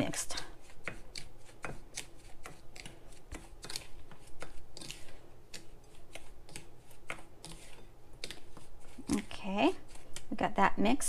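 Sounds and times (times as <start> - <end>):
utensil scraping and clicking bowl: 0.0 - 10.4.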